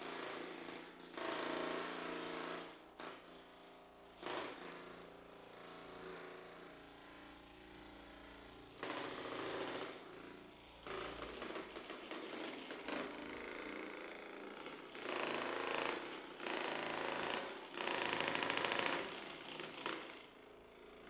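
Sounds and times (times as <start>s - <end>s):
massage gun motor hum: 2.7s - 21.0s.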